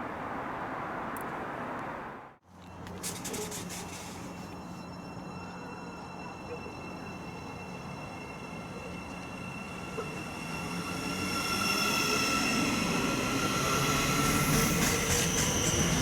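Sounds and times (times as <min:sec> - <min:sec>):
train low hum: 0:00.0 - 0:16.0
high-pitched whining tones: 0:03.0 - 0:16.0.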